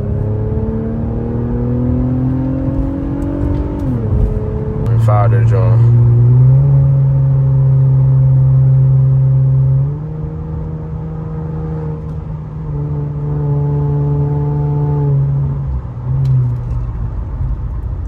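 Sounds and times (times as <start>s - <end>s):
car engine and exhaust droning: 0.0s - 18.0s.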